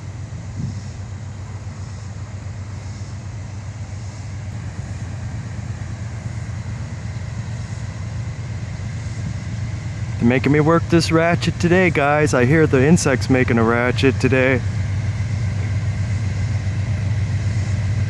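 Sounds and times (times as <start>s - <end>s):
diesel locomotive rumble: 0.0s - 18.0s
insects chirring: 0.0s - 18.0s.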